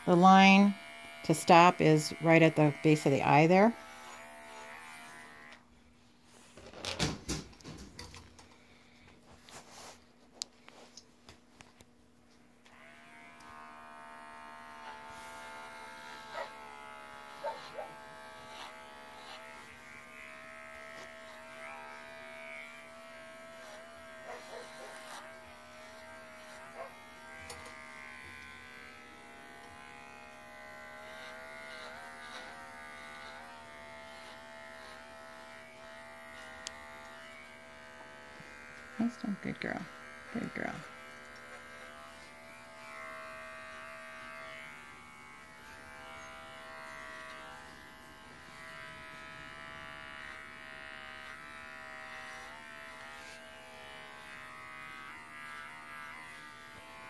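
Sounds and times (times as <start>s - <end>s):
hair clipper buzzing: 0.0s - 5.7s, 12.5s - 57.0s.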